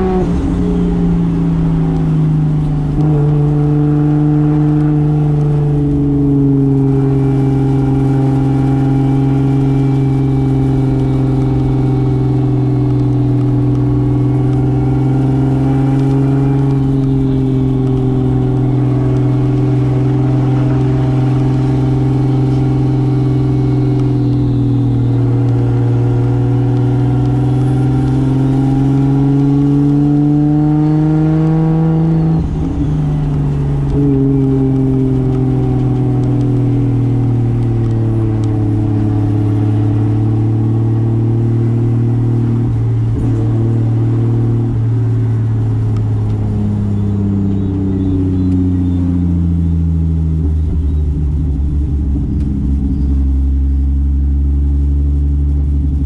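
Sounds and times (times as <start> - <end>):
car engine cruising: 0.0 - 56.0.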